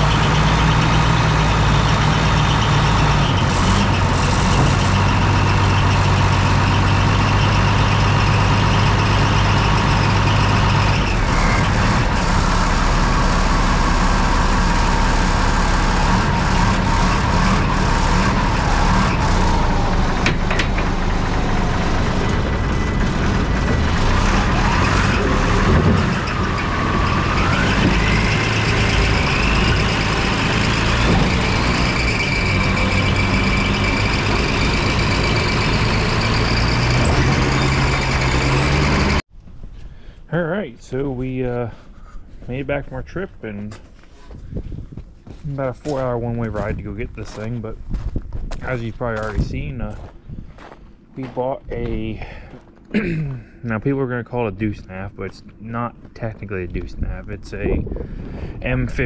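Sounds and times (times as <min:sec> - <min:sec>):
truck diesel engine drone: 0:00.0 - 0:39.4, 0:48.5 - 0:59.0.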